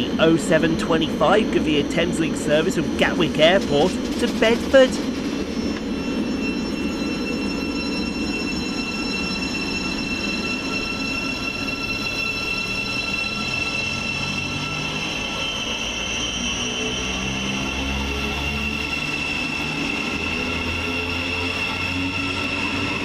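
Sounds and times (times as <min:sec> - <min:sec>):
high-pitched whining tones: 0:00.0 - 0:23.0
train rumble: 0:00.0 - 0:23.0.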